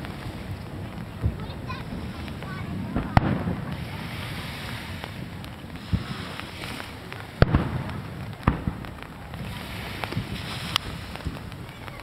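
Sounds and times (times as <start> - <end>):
background rumble: 0.0 - 12.0
firework shells bursting: 0.0 - 12.0.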